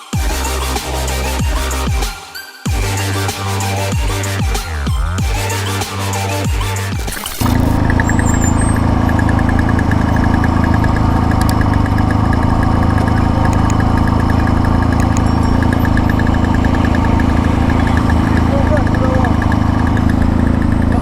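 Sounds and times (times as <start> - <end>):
electronic music: 0.0 - 21.0
fast regular ticking: 0.2 - 21.0
motorcycle engine running: 2.7 - 21.0.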